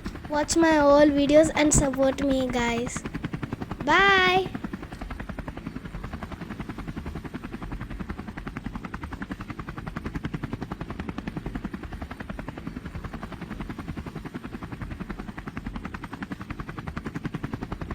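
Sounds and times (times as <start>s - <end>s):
helicopter rotor beating: 0.0s - 17.8s.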